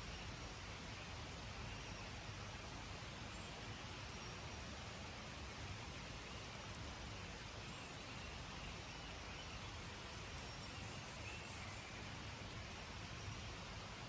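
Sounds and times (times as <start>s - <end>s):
outdoor ambient hiss: 0.0s - 14.0s.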